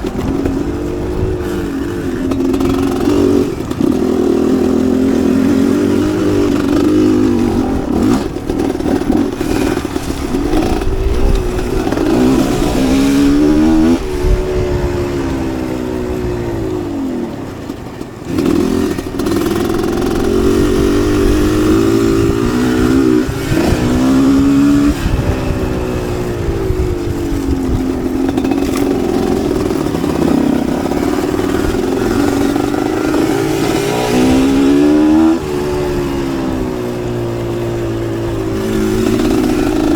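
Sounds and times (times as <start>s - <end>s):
bike rattling: 0.0s - 39.9s
motocross bike engine revving: 0.0s - 39.9s.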